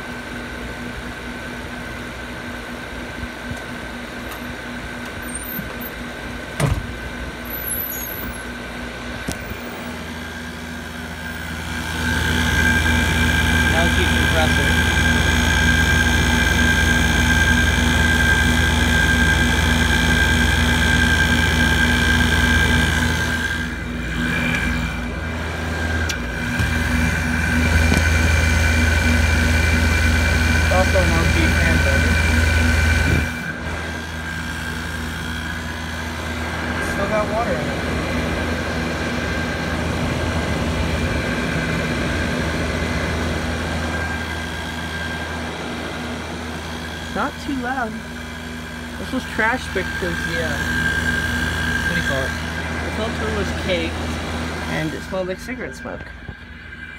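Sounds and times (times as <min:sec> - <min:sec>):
high whine: 0:03.4 - 0:56.9
air conditioner humming: 0:08.4 - 0:56.9.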